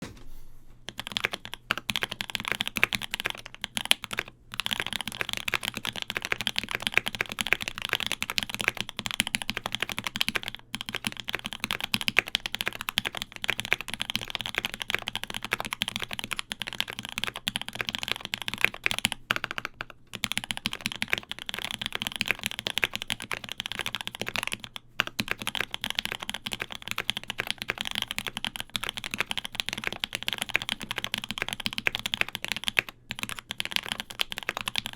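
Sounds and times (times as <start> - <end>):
fast mechanical keyboard typing: 0.9 - 34.9.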